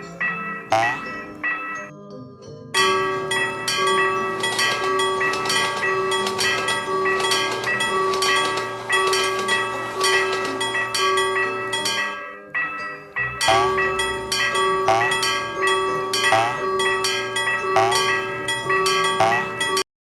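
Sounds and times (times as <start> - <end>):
railroad crossing bell clanging: 0.0 - 1.9, 2.8 - 19.9.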